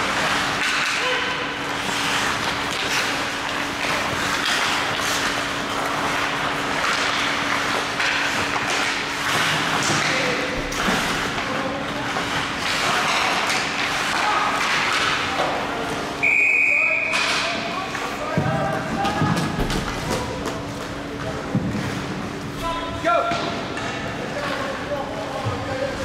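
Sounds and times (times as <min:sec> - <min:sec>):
skates scraping ice: 0:00.0 - 0:16.1, 0:17.1 - 0:23.2
sticks and puck clacking: 0:00.0 - 0:16.1, 0:17.0 - 0:26.0
low rink hum: 0:00.0 - 0:26.0.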